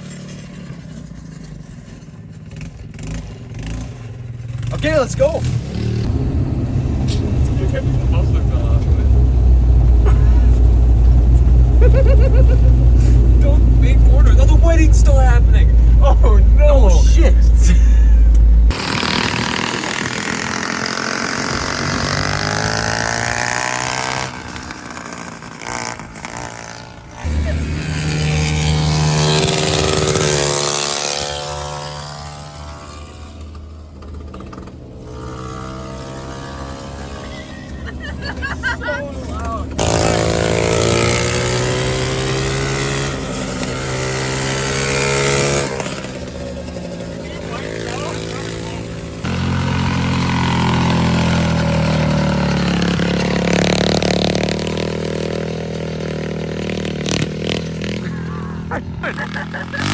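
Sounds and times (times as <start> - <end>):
lawnmower engine running: 0.0 - 59.9.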